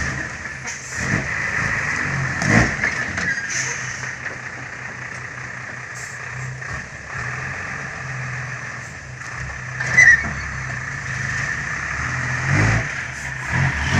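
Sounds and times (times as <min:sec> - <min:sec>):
diesel truck engine idling: 0:00.0 - 0:13.9.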